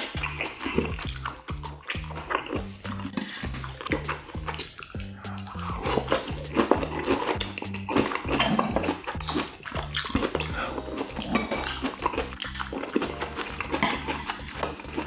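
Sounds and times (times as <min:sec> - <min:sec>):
background music with bass line: 0:00.0 - 0:15.0
wet crackly chewing: 0:00.0 - 0:15.0.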